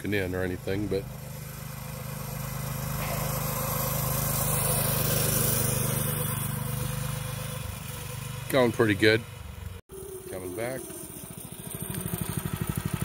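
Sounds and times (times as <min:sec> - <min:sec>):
mini bike engine running: 0:00.0 - 0:13.0.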